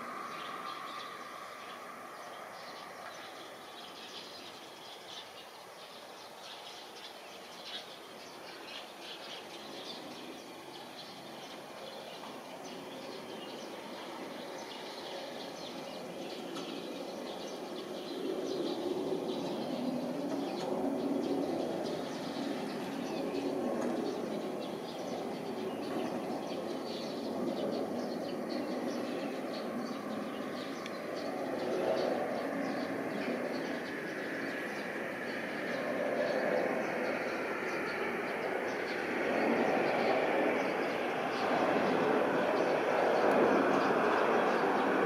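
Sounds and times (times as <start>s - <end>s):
jet engine rumble: 0.0s - 3.9s, 9.6s - 45.0s
small birds chirping: 0.0s - 45.0s.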